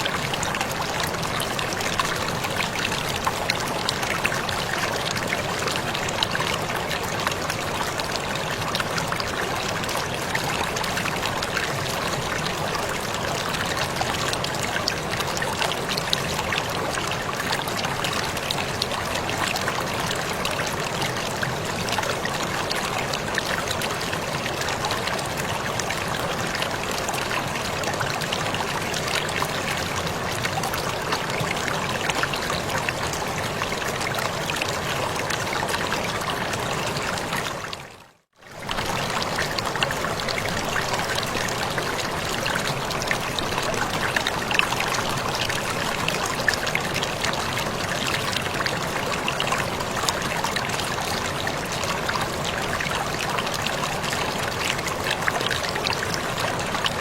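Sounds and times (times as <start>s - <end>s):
waterfall rushing and splashing: 0.0s - 37.8s, 38.6s - 57.0s.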